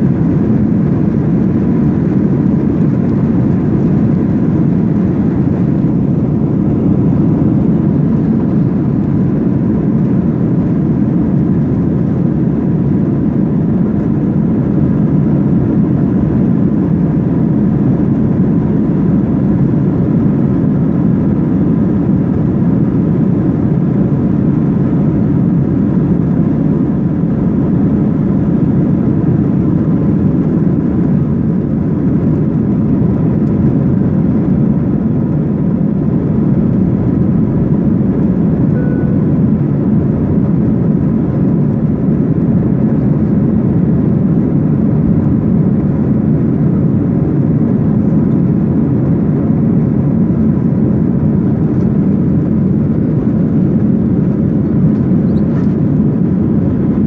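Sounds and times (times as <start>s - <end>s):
faint steady whine: 0.0s - 57.0s
jet engine cabin drone: 0.0s - 57.0s.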